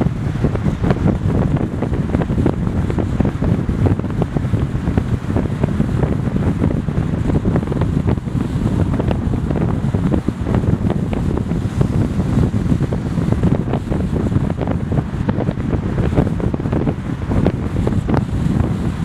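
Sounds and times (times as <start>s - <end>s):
car road noise: 0.0s - 19.0s
wind buffeting microphone: 0.0s - 19.0s.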